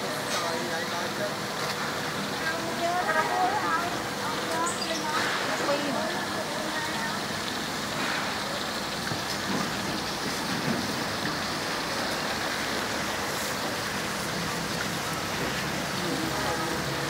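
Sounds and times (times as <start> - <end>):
street market noise: 0.0 - 17.0.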